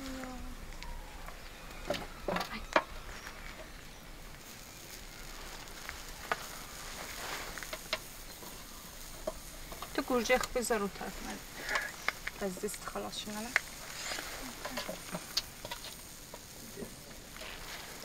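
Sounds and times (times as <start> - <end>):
meat sizzling on grill: 0.0 - 18.0.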